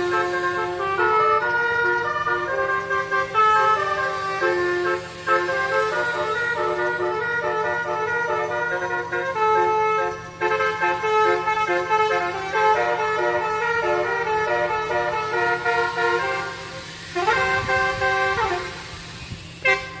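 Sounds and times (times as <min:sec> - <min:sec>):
multi-tone air horn tune: 0:00.0 - 0:20.0.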